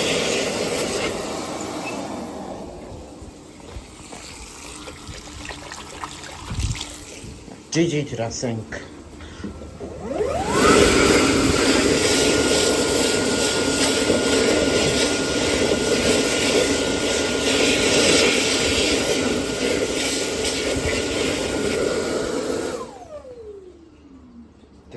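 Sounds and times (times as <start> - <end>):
hand dryer blowing with whine: 0.0 - 7.7, 9.4 - 24.0.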